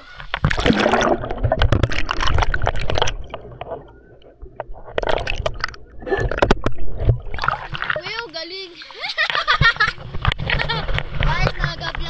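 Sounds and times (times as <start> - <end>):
underwater churning and gurgling: 0.0 - 12.0.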